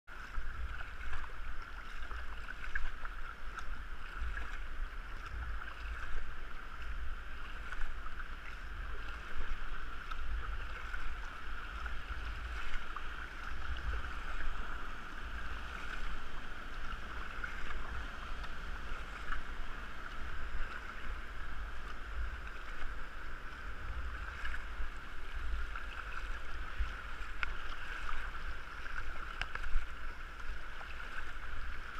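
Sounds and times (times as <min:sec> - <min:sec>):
river water rushing: 0:00.1 - 0:31.9
water slapping kayak hull: 0:00.1 - 0:31.9
low rumble: 0:00.2 - 0:31.9.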